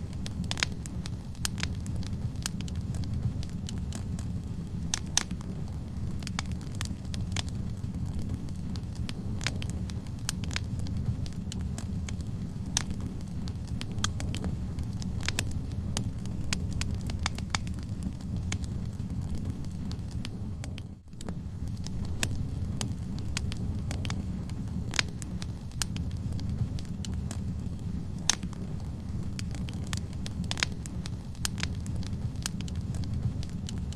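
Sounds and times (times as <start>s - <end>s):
fire rumbling: 0.0s - 33.9s
wood crackling and popping: 0.0s - 33.9s.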